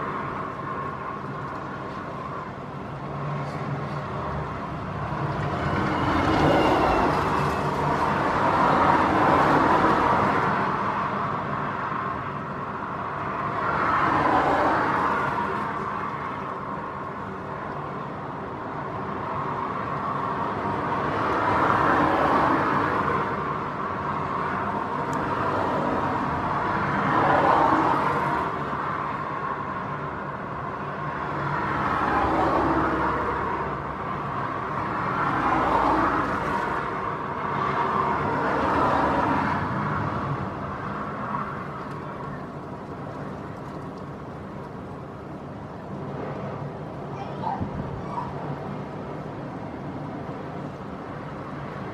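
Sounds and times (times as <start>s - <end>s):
gusting wind: 0.0s - 51.9s.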